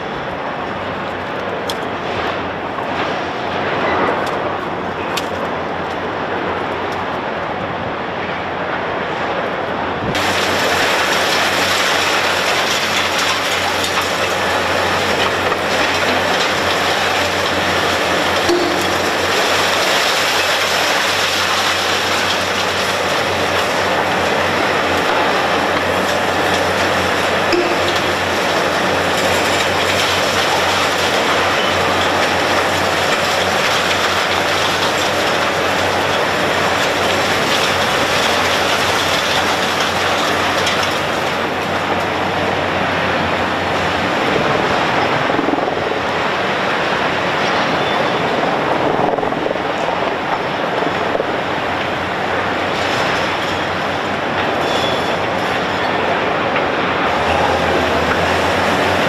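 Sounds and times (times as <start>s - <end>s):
excavator engine hum: 9.6s - 59.0s.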